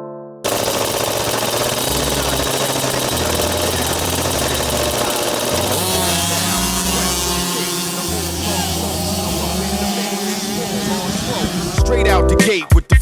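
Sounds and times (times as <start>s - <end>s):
dirt bike engine revving: 0.5s - 12.5s
bass line music: 1.8s - 12.6s.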